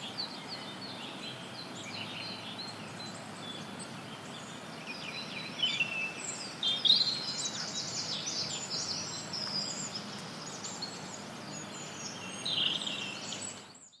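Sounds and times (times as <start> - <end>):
white noise hiss: 0.0 - 13.9
forest birds chirping: 0.0 - 14.0.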